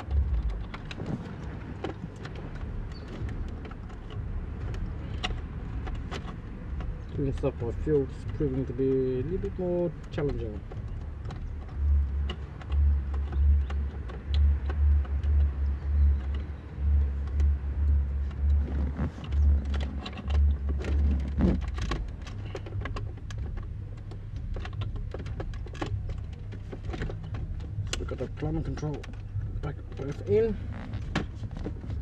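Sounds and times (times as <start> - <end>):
low rumble: 0.0 - 32.0
plastic clicks and rattles: 0.0 - 32.0.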